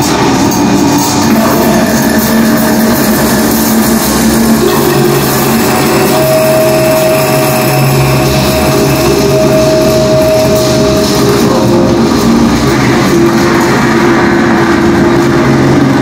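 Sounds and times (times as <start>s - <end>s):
drone tones: 0.0s - 16.0s
grinding electronic noise music: 0.0s - 16.0s
higher steady tone: 1.1s - 16.0s.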